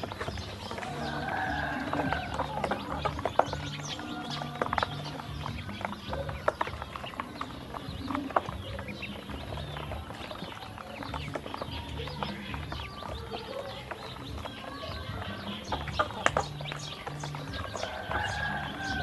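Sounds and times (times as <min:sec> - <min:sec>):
background music with bass line: 0:00.0 - 0:19.0
ducklings peeping: 0:00.0 - 0:19.0.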